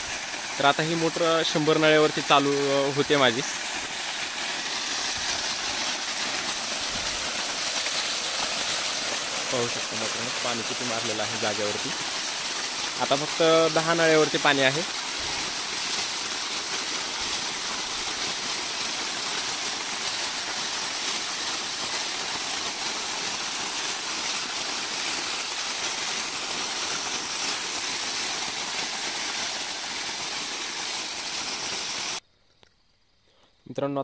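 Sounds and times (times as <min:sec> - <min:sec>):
water gushing from pipe and splashing: 0:00.0 - 0:32.2.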